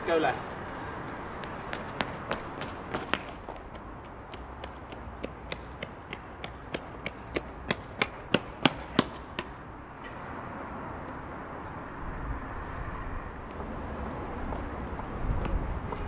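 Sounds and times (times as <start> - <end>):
outdoor street ambience: 0.0 - 16.0
hurried footsteps on pavement: 0.2 - 9.8, 12.1 - 16.0.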